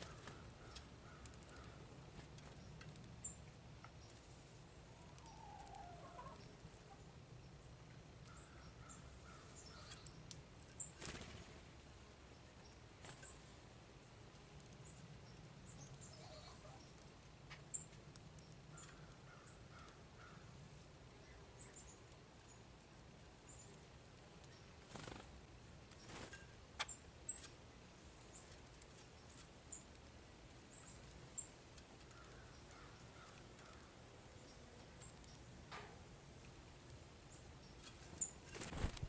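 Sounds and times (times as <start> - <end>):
faint outdoor background: 0.0 - 39.0
small birds chirping: 0.0 - 39.0.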